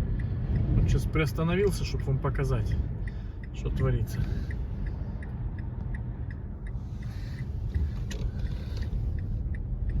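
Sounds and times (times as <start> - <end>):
faint regular ticking: 0.0 - 10.0
strong wind buffeting car: 0.0 - 10.0.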